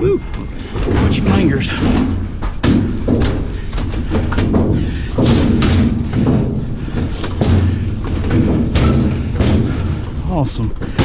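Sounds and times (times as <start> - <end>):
metal scraping: 0.1 - 11.0
metal appliance thumps and knocks: 0.7 - 11.0.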